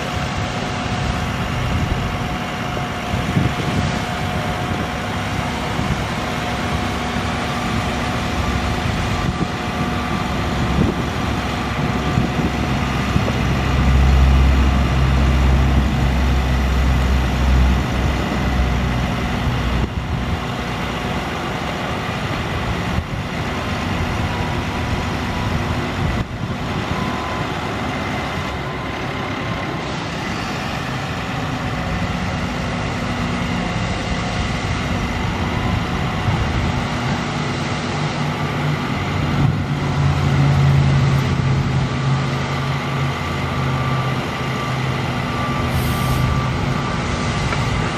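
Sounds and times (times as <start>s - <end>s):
diesel truck engine rumbling: 0.0s - 47.9s.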